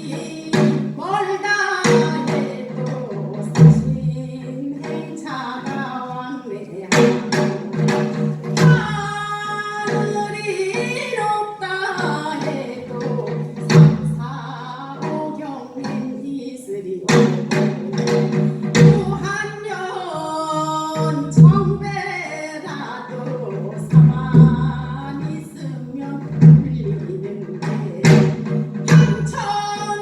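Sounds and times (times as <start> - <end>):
woman singing folk song: 0.0 - 30.0.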